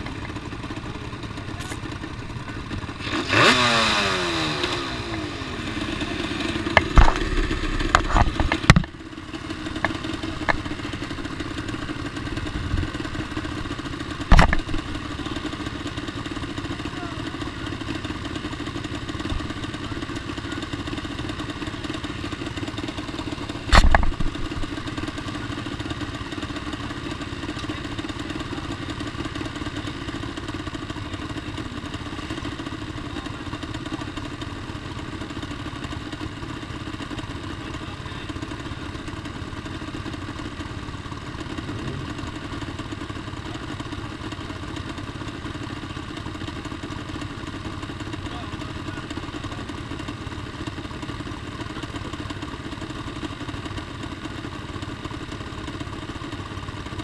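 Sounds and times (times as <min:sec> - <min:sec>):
two-stroke engine idling: 0:00.0 - 0:57.0.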